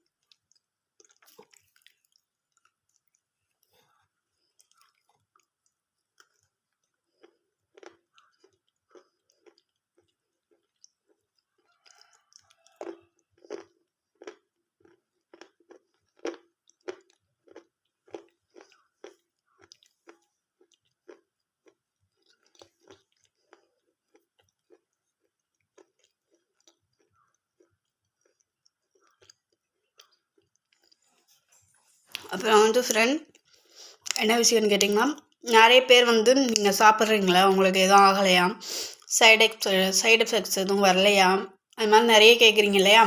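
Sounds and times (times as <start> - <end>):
soft crunching chewing: 0.0 - 35.4.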